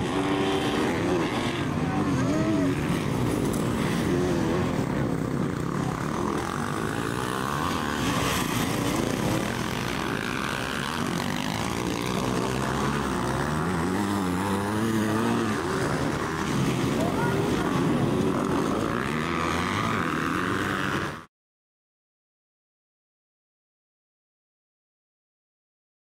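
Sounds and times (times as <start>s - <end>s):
motocross bike engines revving: 0.0s - 21.3s.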